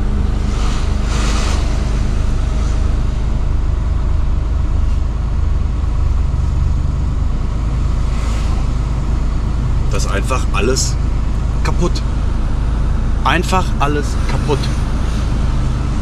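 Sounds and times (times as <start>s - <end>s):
road and cab noise: 0.0s - 16.0s
truck diesel engine rumble: 0.0s - 16.0s.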